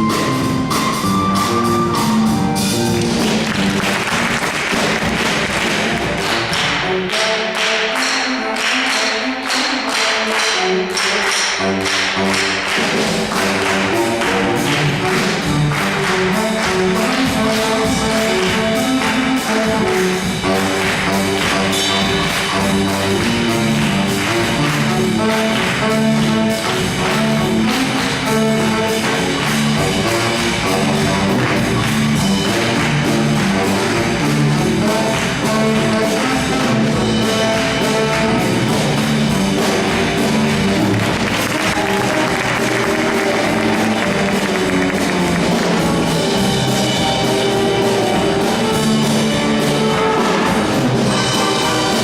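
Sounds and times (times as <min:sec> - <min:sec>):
percussion strokes: 0:00.0 - 0:52.0
school band playing: 0:00.0 - 0:52.0.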